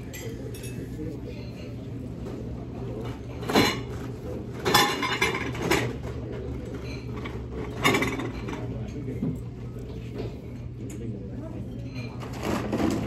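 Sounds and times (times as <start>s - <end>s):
dishes and cutlery clattering: 0.0s - 13.0s
low background hum: 0.0s - 13.0s.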